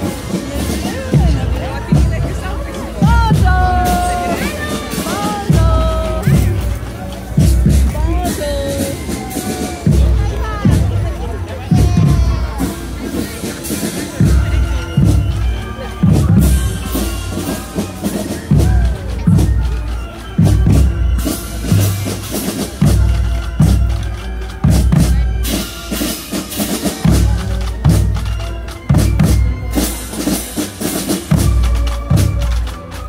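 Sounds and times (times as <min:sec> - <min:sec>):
loud music with drum beat: 0:00.0 - 0:33.0.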